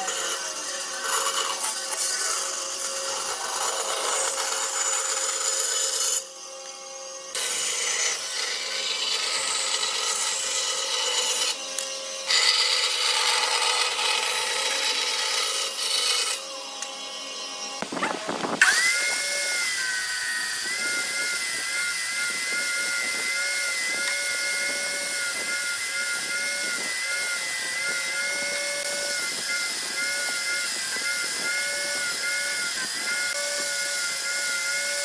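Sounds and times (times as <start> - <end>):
tool rasping wood: 0.0 - 6.2, 7.4 - 11.6, 12.2 - 16.4, 17.8 - 35.0.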